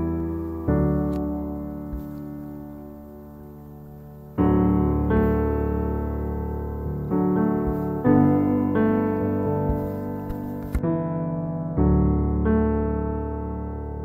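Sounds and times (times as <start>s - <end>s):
gentle solo piano: 0.0s - 14.0s.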